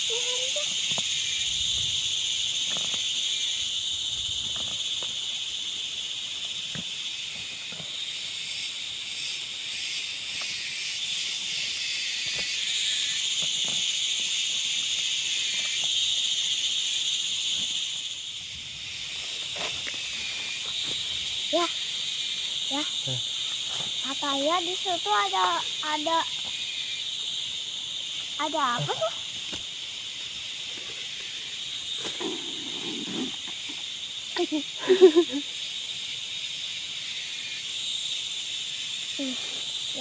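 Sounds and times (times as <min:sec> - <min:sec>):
insects buzzing: 0:00.0 - 0:40.0.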